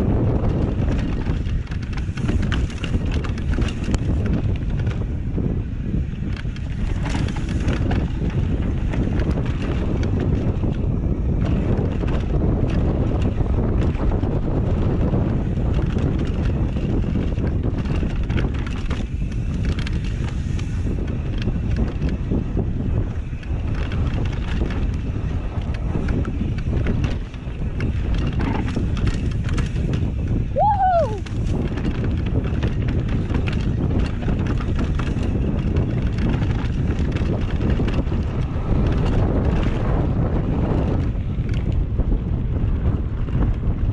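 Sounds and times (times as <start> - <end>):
bike rattling clicks: 0.0 - 30.5, 31.2 - 43.8
wind rushing over microphone: 0.0 - 43.9.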